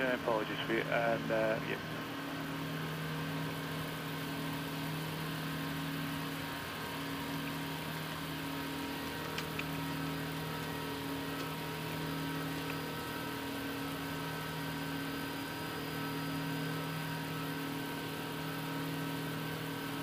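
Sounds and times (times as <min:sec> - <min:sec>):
airliner engines humming: 0:00.0 - 0:20.0.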